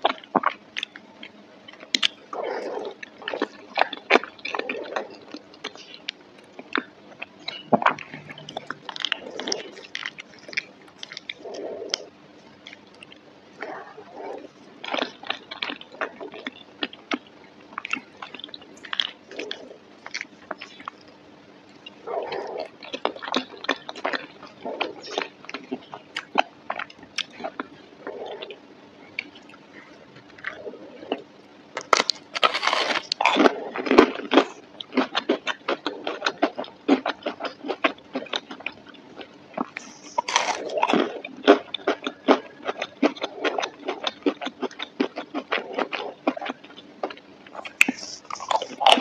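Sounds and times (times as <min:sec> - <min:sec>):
chewing and biting food: 0:00.0 - 0:49.0.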